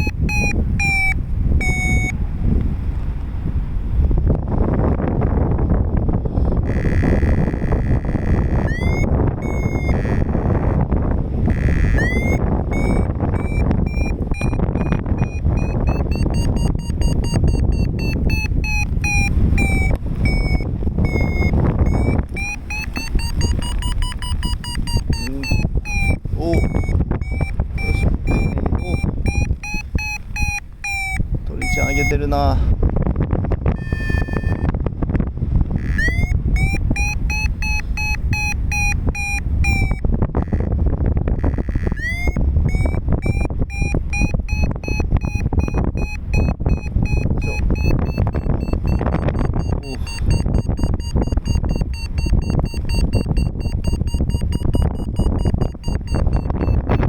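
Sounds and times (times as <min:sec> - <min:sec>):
variometer beeping: 0:00.0 - 0:02.2, 0:06.6 - 0:32.6, 0:33.6 - 0:34.8, 0:35.8 - 0:57.0
wind rush on microphone: 0:00.0 - 0:57.0.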